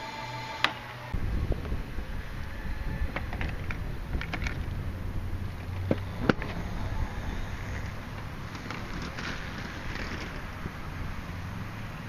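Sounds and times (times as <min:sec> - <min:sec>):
wind rumbling on microphone: 0:01.1 - 0:12.0.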